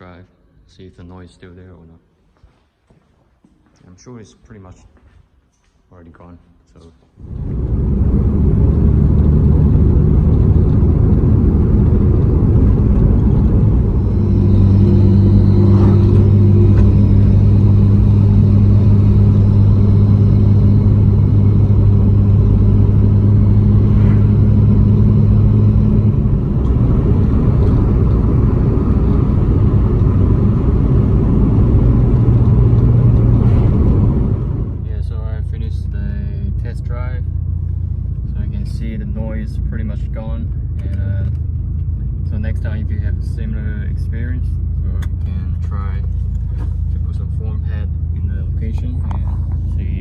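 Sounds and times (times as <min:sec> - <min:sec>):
car engine drone from inside cabin: 0:07.2 - 0:50.0
road noise: 0:07.2 - 0:50.0.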